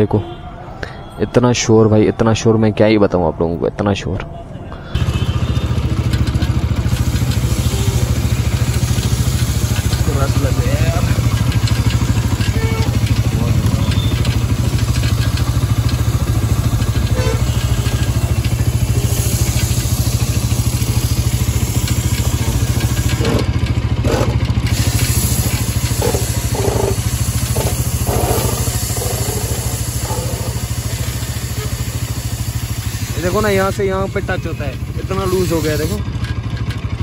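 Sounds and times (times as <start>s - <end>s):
motorcycle engine idling: 5.0s - 37.0s.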